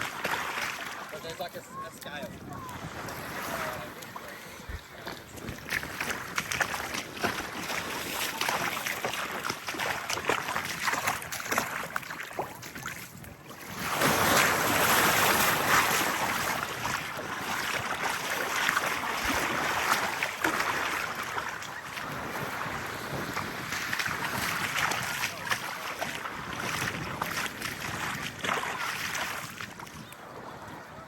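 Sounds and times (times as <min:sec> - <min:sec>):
small waves washing onto sand: 0:00.0 - 0:31.0
wind on microphone: 0:01.7 - 0:31.0.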